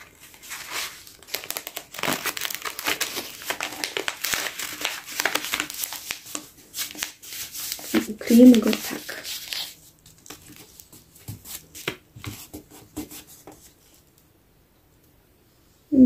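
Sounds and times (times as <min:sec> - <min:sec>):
paper crinkling and rustling: 0:00.0 - 0:14.1.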